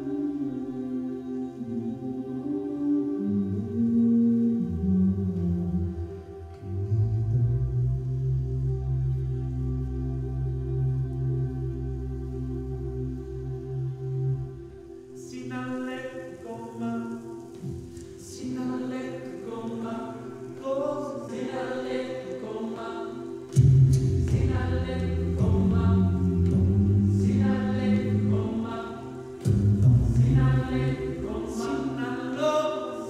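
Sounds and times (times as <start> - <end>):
group singing a cappella: 0.0 - 33.0.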